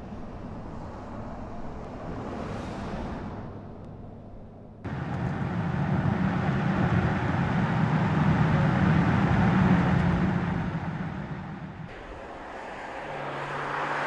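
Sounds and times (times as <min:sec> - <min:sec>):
car engine at speed: 0:00.0 - 0:14.0
road noise: 0:00.0 - 0:14.0.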